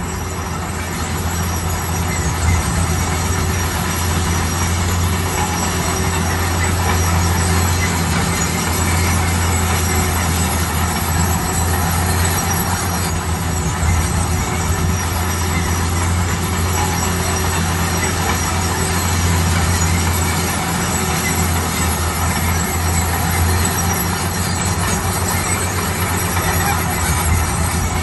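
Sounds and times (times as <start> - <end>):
bulldozer diesel engine hum: 0.0 - 28.0
grinding rattling noise: 0.0 - 28.0.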